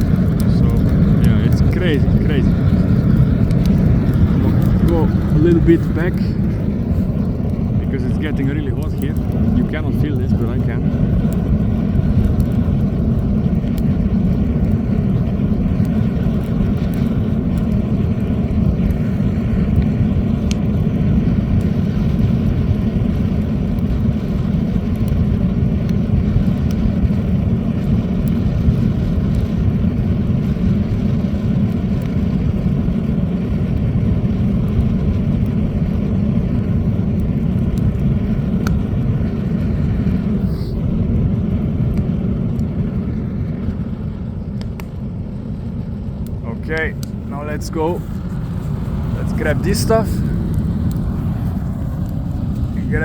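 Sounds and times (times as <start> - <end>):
fire crackling and popping: 0.0 - 53.0
fire rushing: 0.0 - 53.0.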